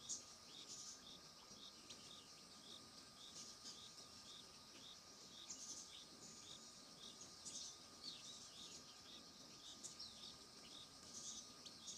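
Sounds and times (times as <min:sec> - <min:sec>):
bird chirping: 0:00.0 - 0:11.9
bird twittering calls: 0:00.0 - 0:11.9.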